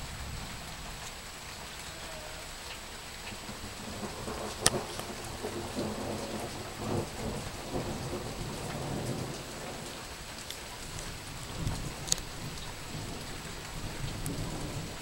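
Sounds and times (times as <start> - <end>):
low rumble of thunder: 0.0 - 15.0
steady rain falling: 0.0 - 15.0.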